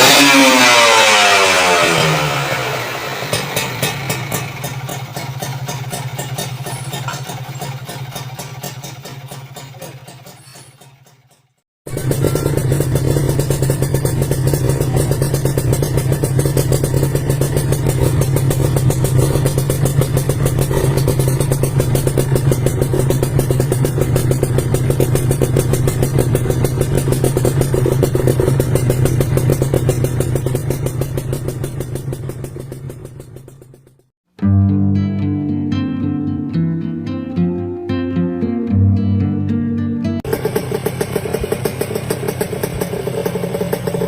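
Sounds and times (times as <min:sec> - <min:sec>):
motorcycle engine running steadily: 0:00.0 - 0:34.1, 0:40.2 - 0:44.0.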